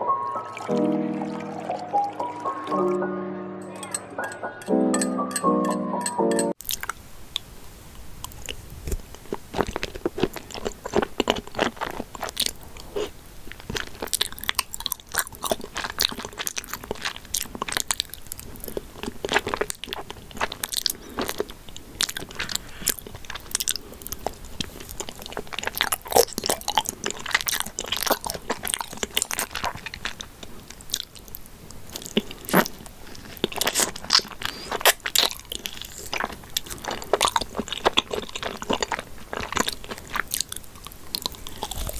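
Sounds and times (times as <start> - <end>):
person chewing crunchy food: 6.6 - 7.5, 8.2 - 41.9
wet mouth sounds: 6.6 - 7.5, 8.2 - 41.9.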